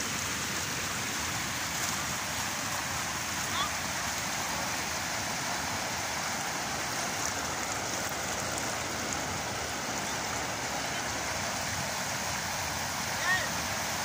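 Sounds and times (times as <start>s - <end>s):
rushing floodwater: 0.0s - 14.0s
steady rain: 0.0s - 14.0s.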